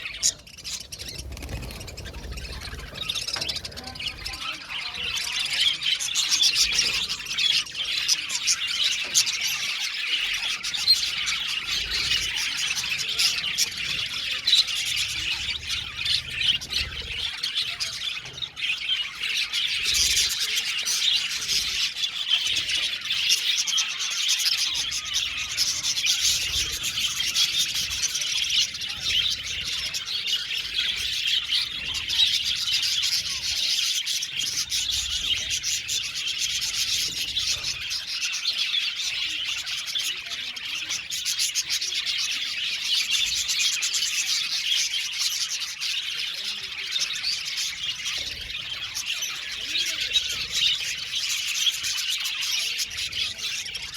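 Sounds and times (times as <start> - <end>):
budgerigars chirping: 0.0 - 53.9.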